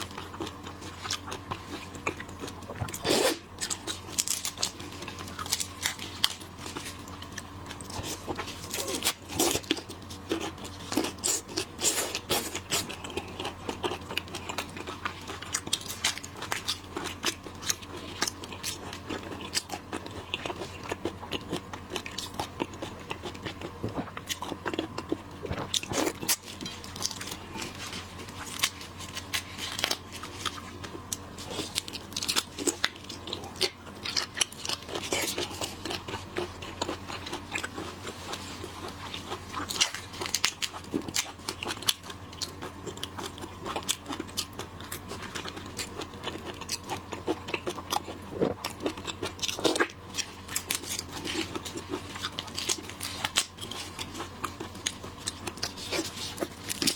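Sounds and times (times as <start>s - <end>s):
crunching and chewing seafood: 0.0s - 56.9s.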